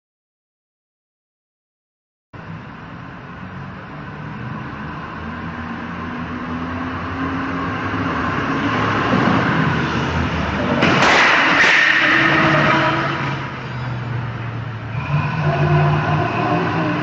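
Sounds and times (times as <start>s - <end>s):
vehicle engine and road noise: 2.4s - 17.0s.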